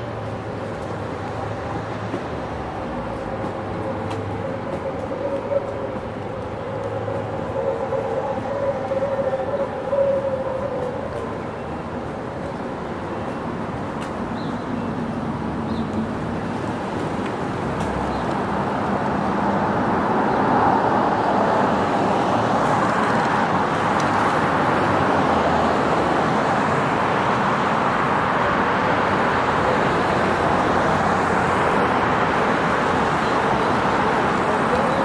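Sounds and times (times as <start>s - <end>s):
cars passing on road: 0.0s - 35.0s.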